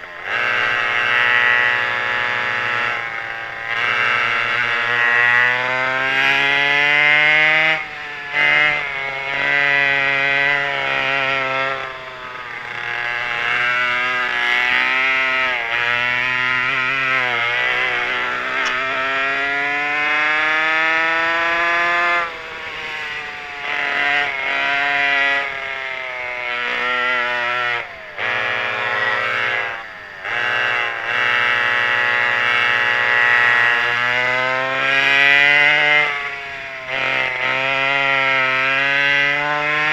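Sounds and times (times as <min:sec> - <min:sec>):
two-stroke kart engines racing: 0:00.0 - 0:39.9.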